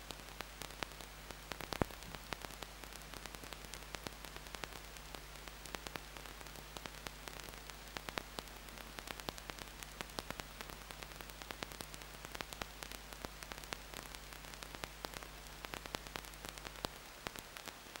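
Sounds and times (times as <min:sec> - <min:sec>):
crackling clicks: 0:00.0 - 0:18.0
low mains hum: 0:00.0 - 0:18.0
static hiss: 0:00.0 - 0:18.0.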